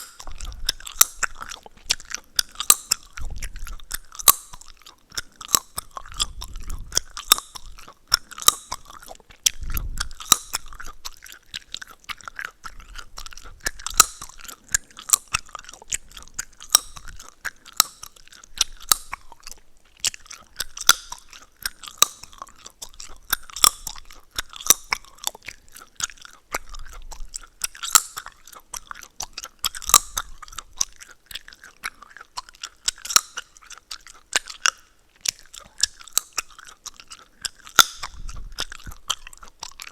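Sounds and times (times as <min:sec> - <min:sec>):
gum chewing mouth sounds: 0:00.0 - 0:39.9
gum cracking and popping: 0:00.0 - 0:39.9.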